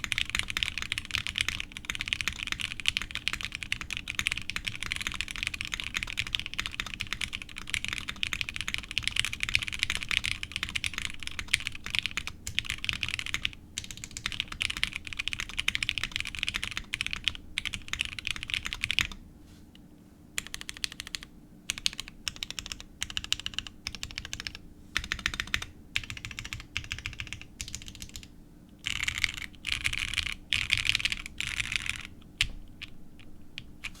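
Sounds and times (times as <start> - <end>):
mechanical keyboard typing: 0.0 - 19.2, 20.4 - 32.9.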